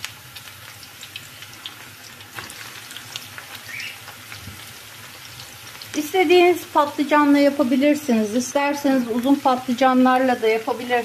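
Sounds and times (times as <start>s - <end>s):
eggplant frying in hot oil: 0.0s - 11.0s.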